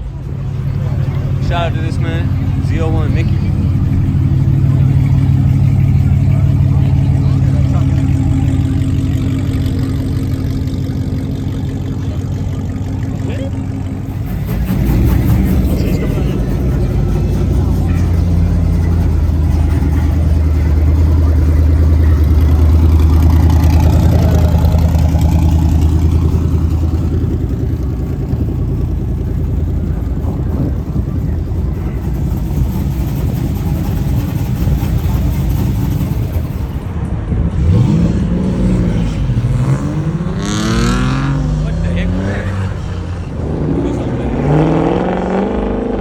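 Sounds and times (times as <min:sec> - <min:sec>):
car engine rumbling: 0:00.0 - 0:46.0
engine revving: 0:00.0 - 0:46.0.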